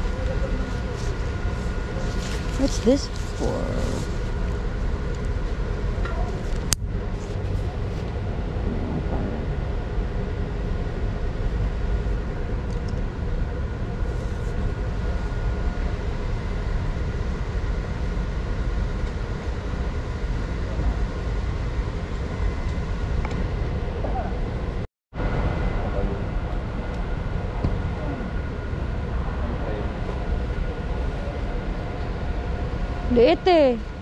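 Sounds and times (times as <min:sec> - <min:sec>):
faint hum tones: 0:00.0 - 0:34.0
store background rumble: 0:00.0 - 0:34.0.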